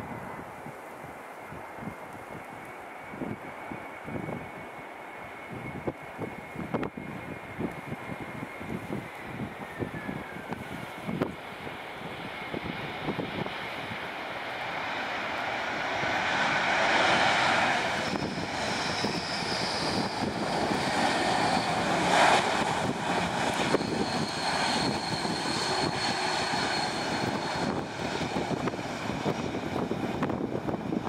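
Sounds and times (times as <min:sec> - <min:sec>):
jet engines rushing with high whine: 0:00.0 - 0:31.0.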